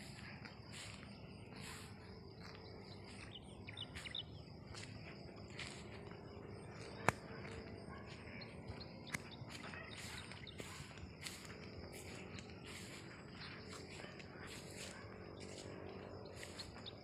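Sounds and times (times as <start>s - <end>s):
insects buzzing in pulses: 0.0s - 17.0s
bird chirps: 0.1s - 5.2s, 6.6s - 17.0s.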